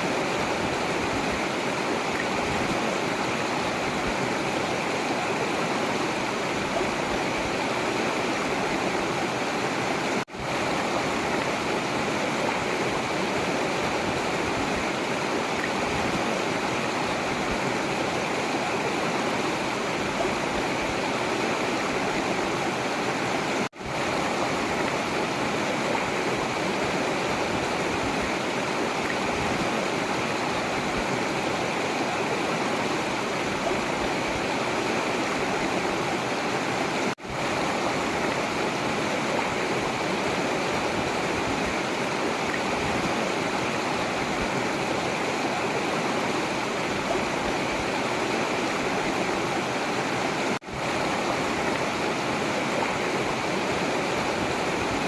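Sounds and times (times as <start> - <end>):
river rushing and splashing: 0.0 - 55.0.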